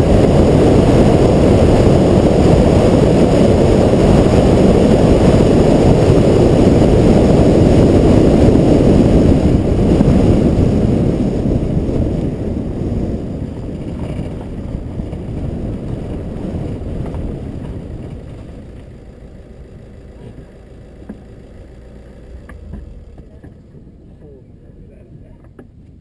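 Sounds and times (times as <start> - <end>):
car rolling slowly: 0.0 - 26.0.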